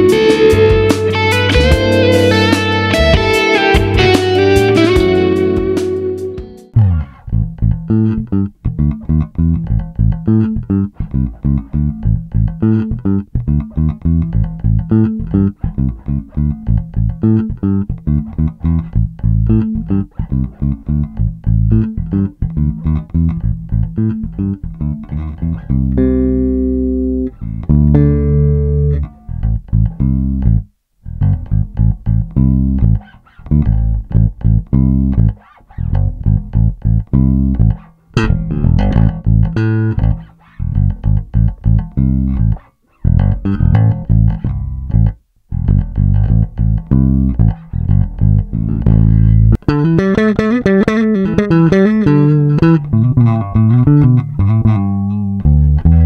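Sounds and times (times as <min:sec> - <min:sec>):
electric bass plucked fingerstyle: 0:00.0 - 0:56.0.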